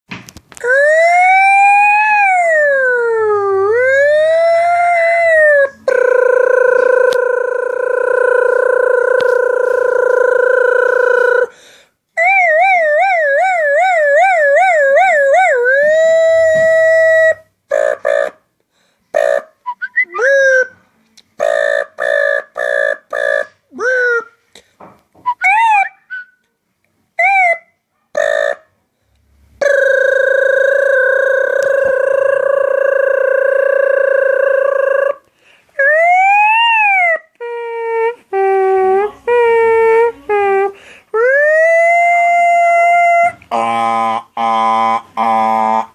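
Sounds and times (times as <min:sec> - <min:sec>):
boy imitating sirens: 0:00.6 - 0:11.6, 0:12.2 - 0:18.4, 0:19.2 - 0:20.8, 0:21.4 - 0:24.4, 0:25.2 - 0:26.3, 0:27.2 - 0:28.6, 0:29.6 - 0:45.9.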